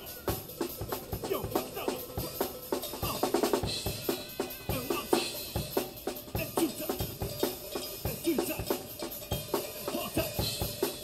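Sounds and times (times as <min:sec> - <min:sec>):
drum kit beat with cymbals: 0:00.0 - 0:11.0
funk band instruments: 0:00.0 - 0:11.0.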